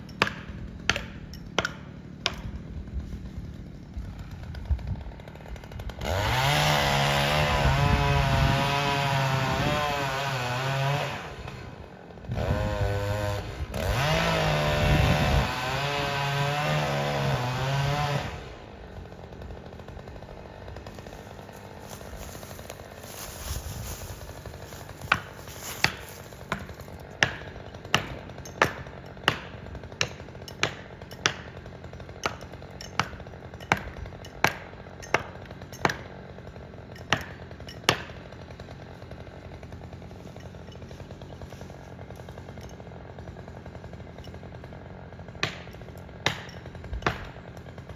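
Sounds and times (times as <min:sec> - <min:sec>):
chainsaw cutting: 0:00.0 - 0:47.9.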